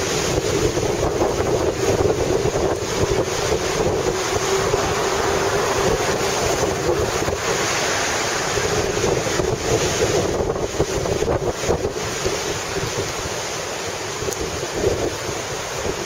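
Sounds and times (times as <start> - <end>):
rough sea surf churning: 0.0 - 16.0
wind buffeting microphone: 0.0 - 16.0.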